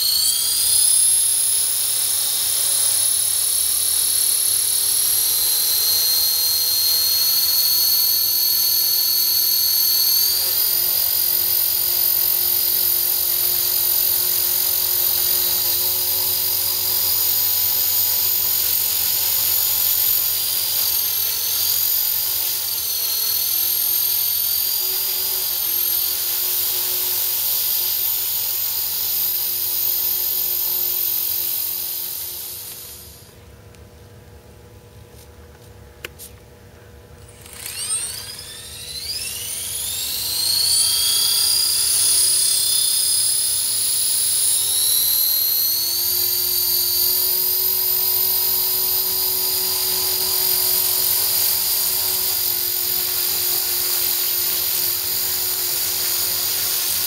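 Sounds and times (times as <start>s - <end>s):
rc helicopter motor whine: 0.0s - 33.5s, 37.2s - 57.0s.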